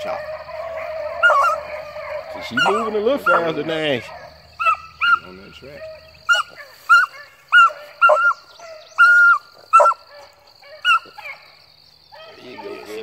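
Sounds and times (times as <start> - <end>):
dog barking: 0.0 - 11.5, 12.1 - 13.0.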